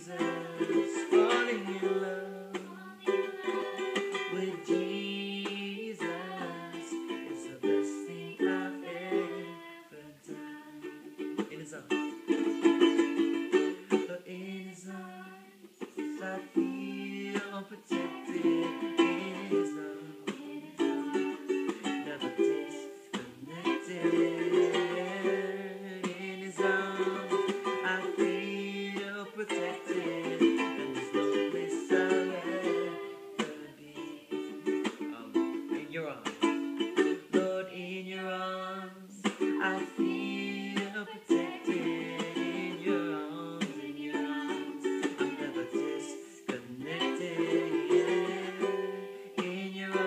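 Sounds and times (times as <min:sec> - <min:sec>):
man singing: 0:00.0 - 0:10.7, 0:11.4 - 0:50.0
ukulele strumming: 0:00.0 - 0:50.0.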